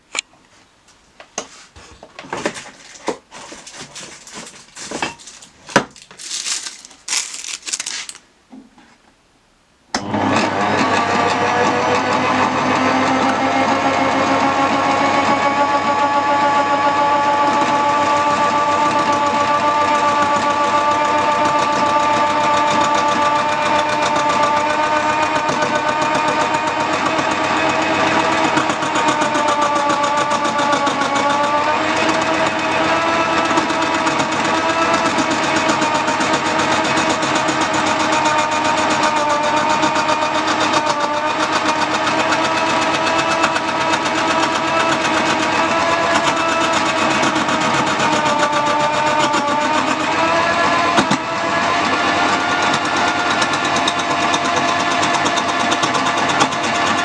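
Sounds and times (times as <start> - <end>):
lathe motor whine: 10.0 - 57.0.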